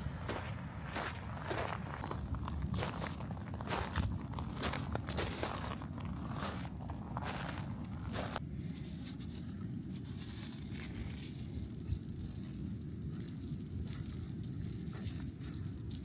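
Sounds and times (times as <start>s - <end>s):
footsteps crunching on shells: 0.3s - 16.0s.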